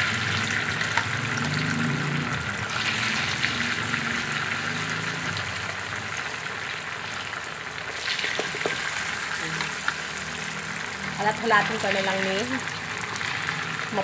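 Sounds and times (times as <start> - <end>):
tofu sizzling in oil: 0.0 - 14.0.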